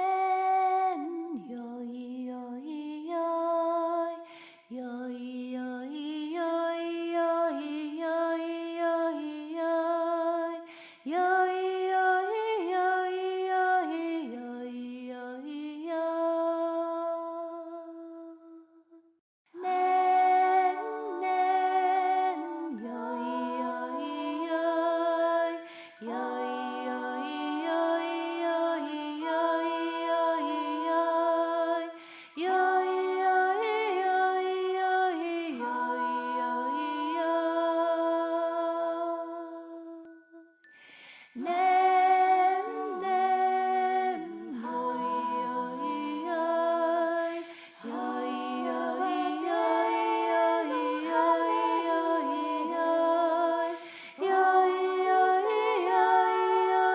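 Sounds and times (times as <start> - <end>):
wordless a cappella singing: 0.0 - 56.9.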